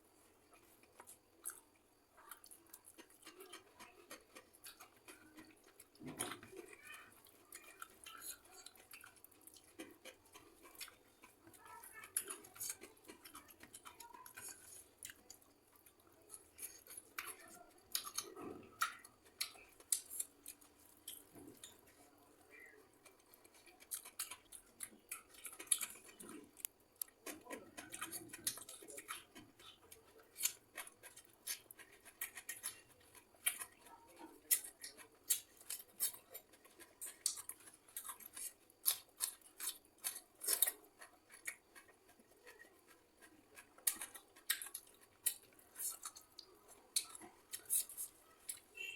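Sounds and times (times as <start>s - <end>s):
person chewing crunchy food: 0.0s - 48.9s.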